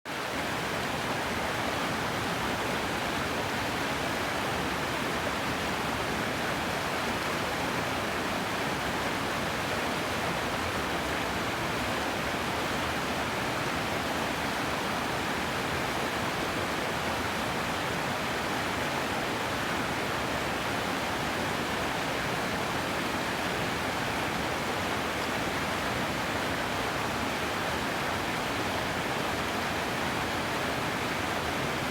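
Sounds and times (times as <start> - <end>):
river water rushing: 0.1 - 31.9.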